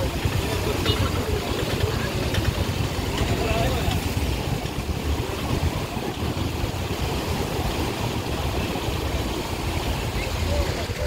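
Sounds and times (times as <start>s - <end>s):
river water rushing: 0.0s - 11.0s
wind on microphone: 0.0s - 11.0s.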